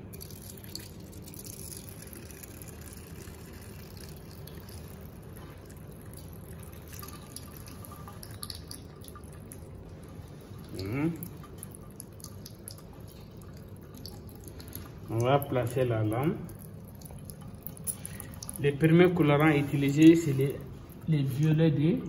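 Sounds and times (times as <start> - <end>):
faint water drips: 0.0 - 22.0.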